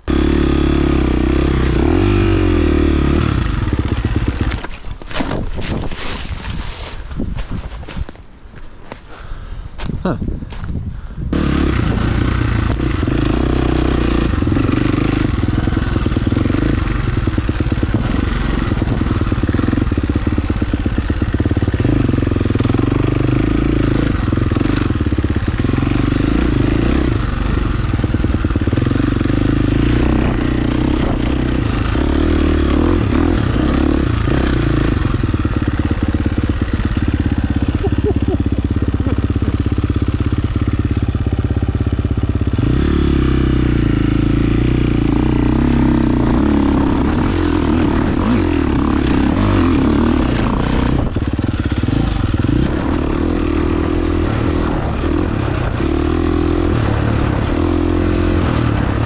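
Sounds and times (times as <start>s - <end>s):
dirt bike engine revving: 0.0s - 4.8s, 11.3s - 59.0s.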